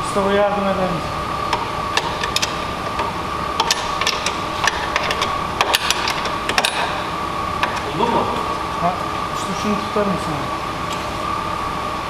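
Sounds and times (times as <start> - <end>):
steady high-pitched hum: 0.0 - 12.0.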